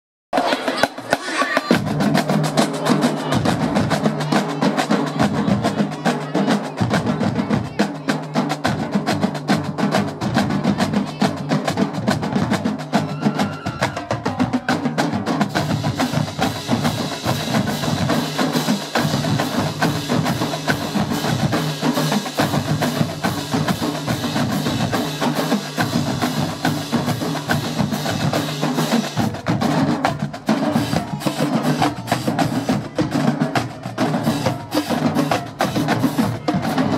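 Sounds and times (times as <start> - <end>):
drumline playing cadence: 0.3 - 36.9.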